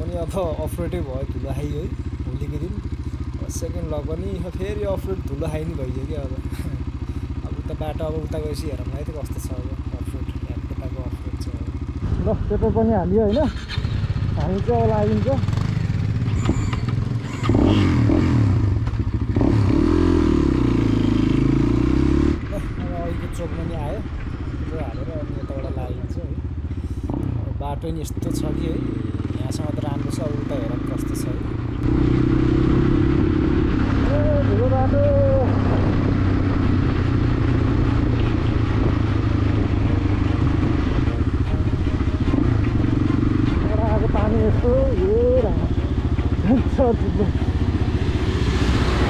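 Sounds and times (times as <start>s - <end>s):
motorcycle engine revving: 0.0s - 49.0s
road and wind noise: 0.0s - 49.0s.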